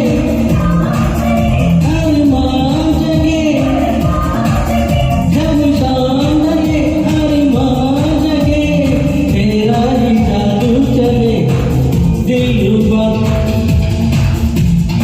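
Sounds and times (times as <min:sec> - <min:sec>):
karaoke backing track with beat: 0:00.0 - 0:15.0
person singing pop song: 0:00.0 - 0:15.0.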